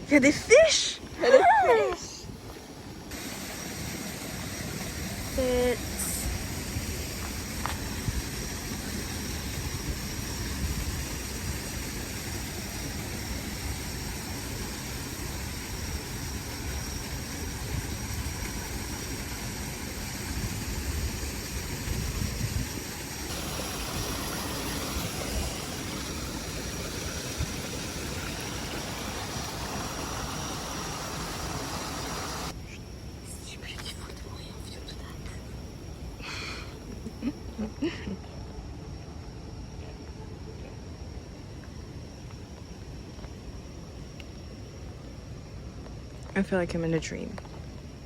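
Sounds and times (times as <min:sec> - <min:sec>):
steady rain hiss: 0:00.0 - 0:48.0.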